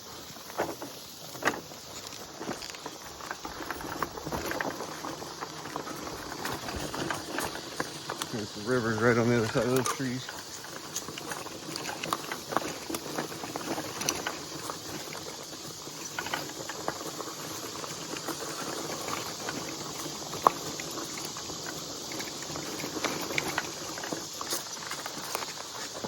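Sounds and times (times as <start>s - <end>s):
bike tyres rolling on dirt: 0.0s - 26.0s.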